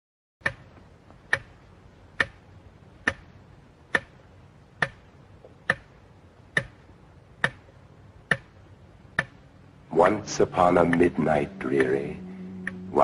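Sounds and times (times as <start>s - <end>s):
clock ticking: 0.4s - 13.0s.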